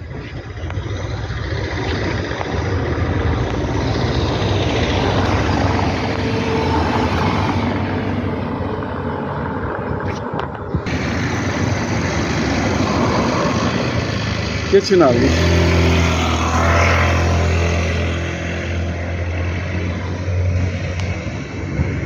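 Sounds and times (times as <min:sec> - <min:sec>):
motor running with noisy rush: 0:00.0 - 0:22.0.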